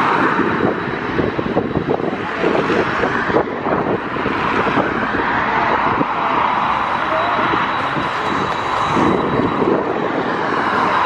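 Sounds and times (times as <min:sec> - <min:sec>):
turboprop engines running: 0:00.0 - 0:11.0
wind buffeting microphone: 0:00.0 - 0:11.0.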